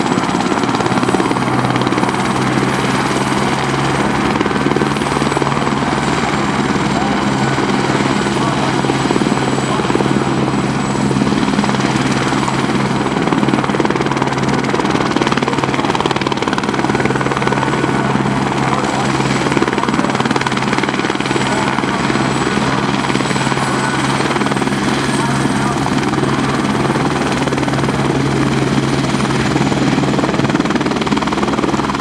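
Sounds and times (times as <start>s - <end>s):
helicopter rotor and engine: 0.0s - 32.0s
high turbine whine: 0.0s - 32.0s.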